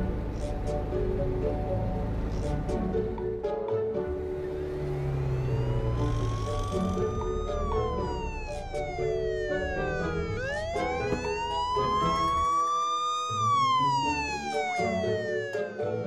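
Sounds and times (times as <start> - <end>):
alarm siren wailing: 0.0 - 16.0
background music: 0.0 - 16.0.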